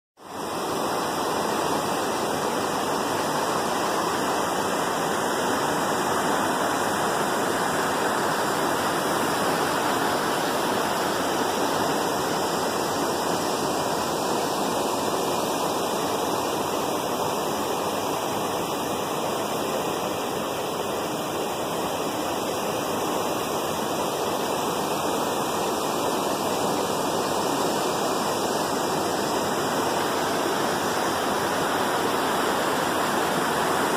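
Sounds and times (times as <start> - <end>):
steady rushing water: 0.2 - 33.9.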